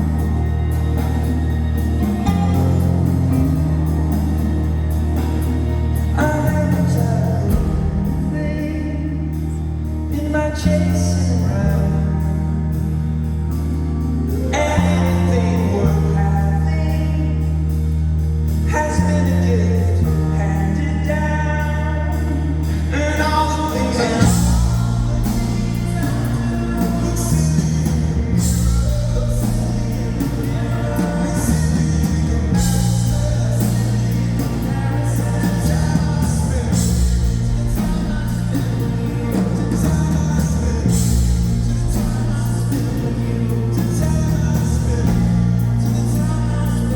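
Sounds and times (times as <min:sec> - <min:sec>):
rock band playing: 0:00.0 - 0:16.4, 0:22.1 - 0:46.9
person singing: 0:00.0 - 0:17.9, 0:18.6 - 0:46.9.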